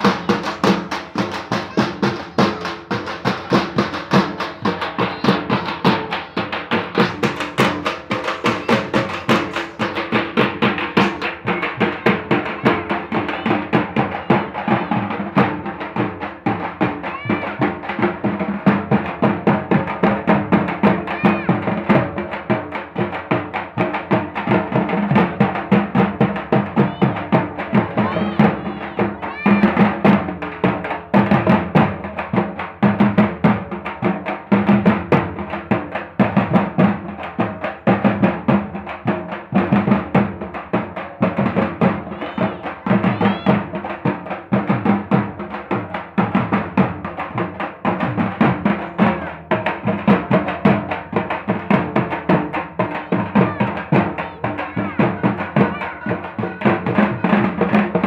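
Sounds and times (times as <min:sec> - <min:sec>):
barrel drums beaten with sticks: 0:00.0 - 0:58.0.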